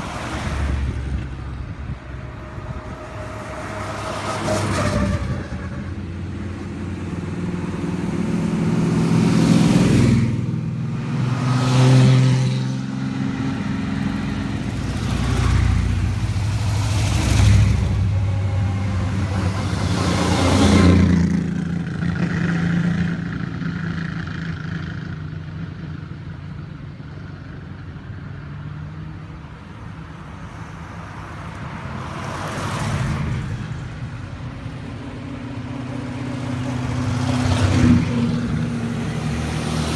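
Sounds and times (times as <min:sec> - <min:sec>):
cars driving past: 0:00.0 - 0:39.9.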